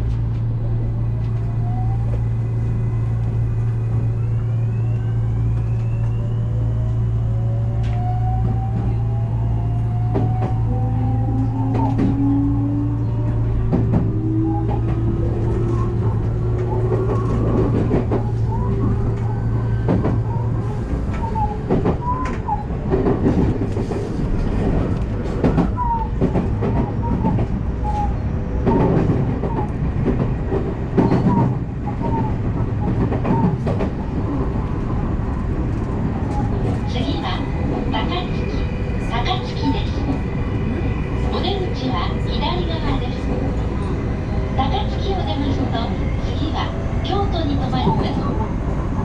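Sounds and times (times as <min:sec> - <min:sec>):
train motor hum and whine: 0:00.0 - 0:49.0.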